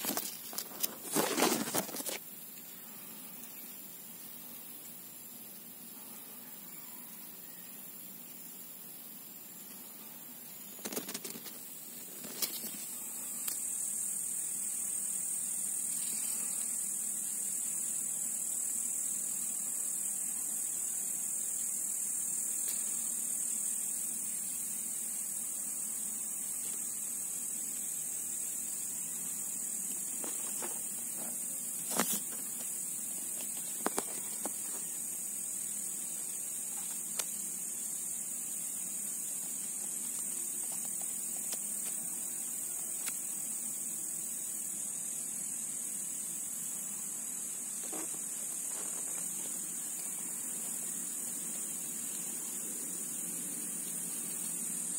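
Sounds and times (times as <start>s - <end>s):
high-pitched insect buzzing: 0.0s - 54.9s.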